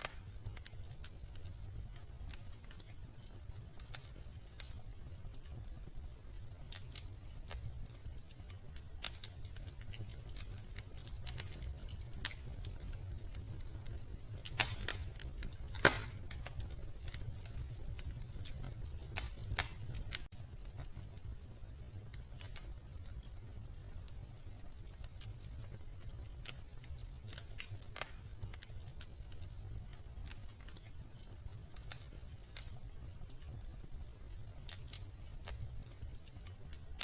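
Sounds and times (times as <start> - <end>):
sharp crack of fire: 0.0 - 37.0
wood fire crackling: 0.0 - 37.0.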